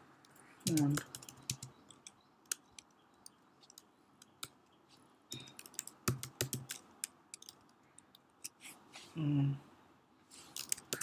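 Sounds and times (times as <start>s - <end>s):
keyboard typing: 0.2s - 8.6s, 10.5s - 11.0s.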